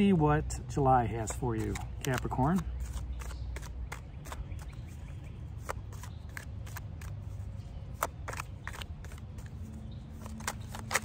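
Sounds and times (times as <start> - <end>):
cards being shuffled: 1.1 - 11.0.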